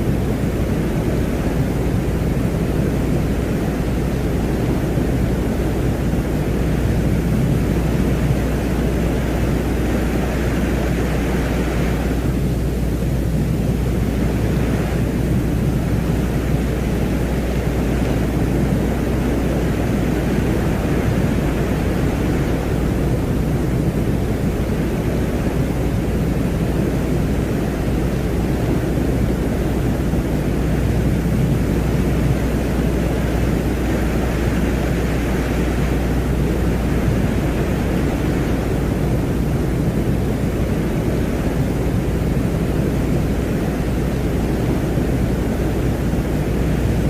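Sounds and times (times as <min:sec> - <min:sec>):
deep noise drone: 0:00.0 - 0:47.0.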